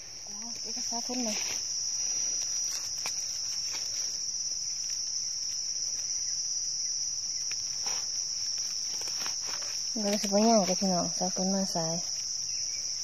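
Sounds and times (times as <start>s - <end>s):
rustling in dry leaf litter: 0.0s - 13.0s.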